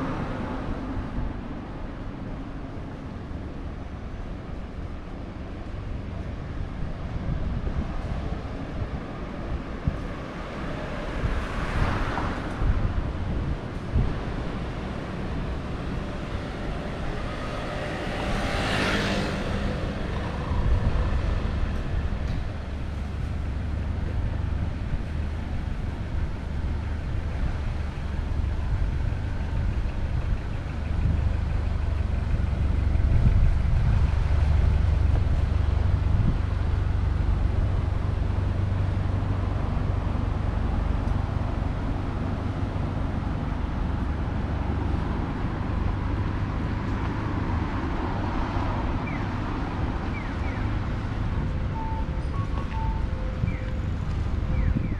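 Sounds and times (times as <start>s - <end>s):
road traffic rumbling: 0.0s - 54.9s.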